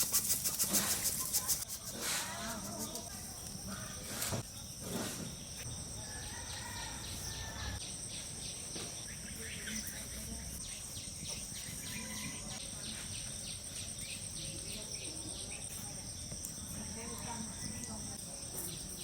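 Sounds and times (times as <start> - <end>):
insects trilling: 0.1 - 19.0.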